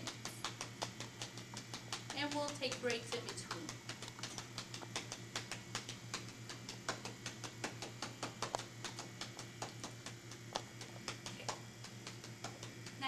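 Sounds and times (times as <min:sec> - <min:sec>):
hands clapping on a back: 0:00.0 - 0:13.0.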